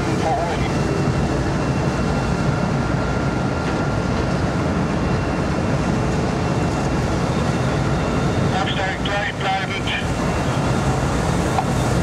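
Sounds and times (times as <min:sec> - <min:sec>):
ship diesel engines rumbling: 0:00.0 - 0:12.0.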